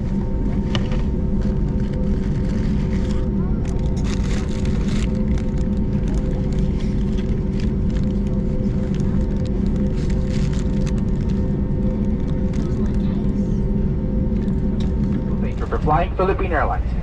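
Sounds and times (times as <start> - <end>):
aircraft engine rumble: 0.0 - 17.0.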